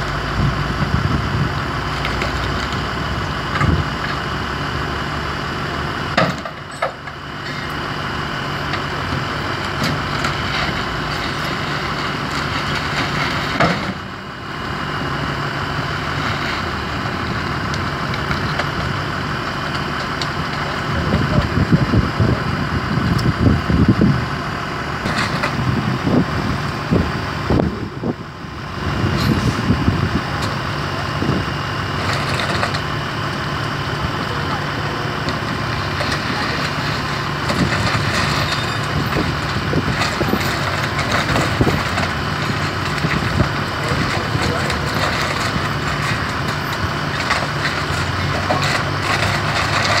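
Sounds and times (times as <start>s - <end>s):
diesel engine idling: 0.0s - 50.0s
low rumbles: 0.0s - 50.0s.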